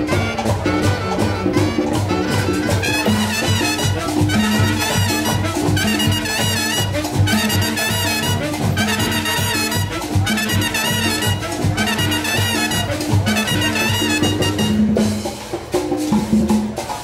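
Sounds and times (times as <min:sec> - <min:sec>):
brass horns playing phrases: 0:00.0 - 0:15.1
percussion rhythm: 0:00.0 - 0:17.0.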